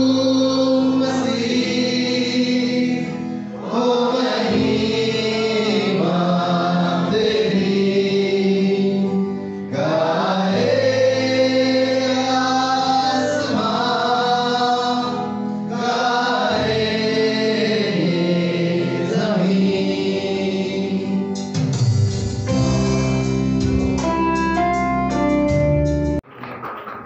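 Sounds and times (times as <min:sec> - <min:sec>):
gospel choir with instruments: 0:00.0 - 0:25.3.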